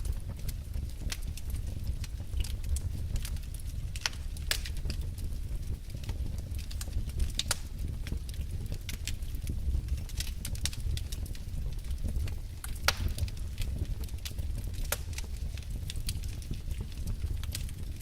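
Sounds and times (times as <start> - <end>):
loud fire snap: 0.0 - 18.0
low rumble of flames: 0.0 - 18.0
wood fire crackling: 0.0 - 18.0.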